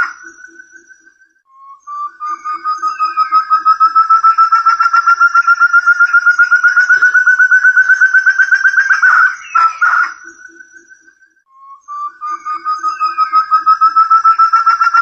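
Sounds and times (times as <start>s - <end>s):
partridge whistled call: 0.0s - 15.0s.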